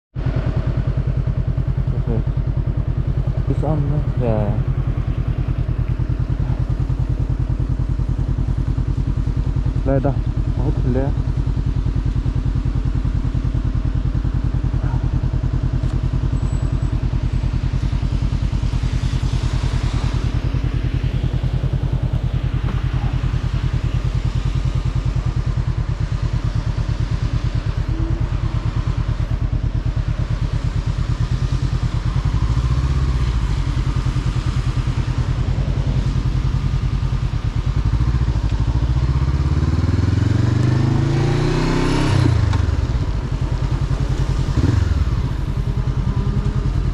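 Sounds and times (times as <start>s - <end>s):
motorcycle engine revving: 0.2s - 46.9s.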